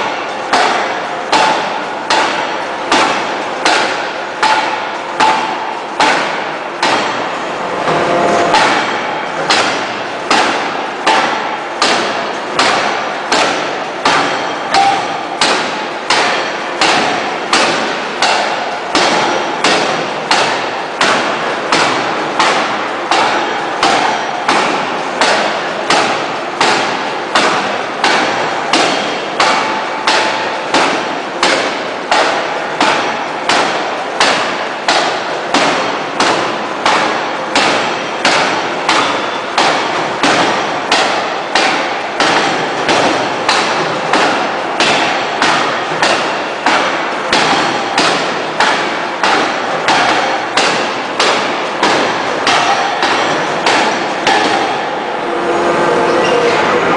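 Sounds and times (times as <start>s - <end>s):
forging hammer striking metal: 0.0s - 56.9s.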